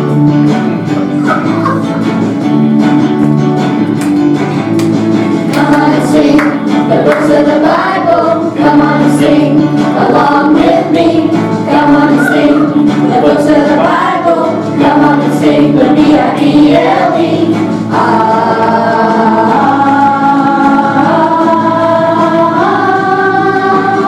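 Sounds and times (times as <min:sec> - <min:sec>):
gospel instrumental with bass line: 0:00.0 - 0:24.0
group singing: 0:01.2 - 0:02.0, 0:05.4 - 0:24.0.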